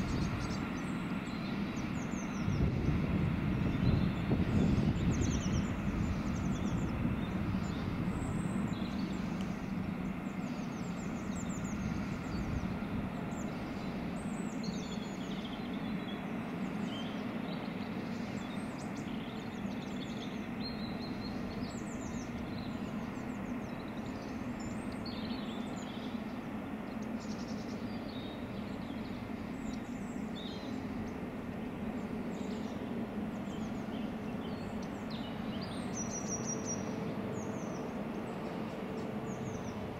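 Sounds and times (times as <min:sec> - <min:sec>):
diesel locomotive drone: 0:00.0 - 0:39.9
small birds chirping: 0:00.0 - 0:39.9.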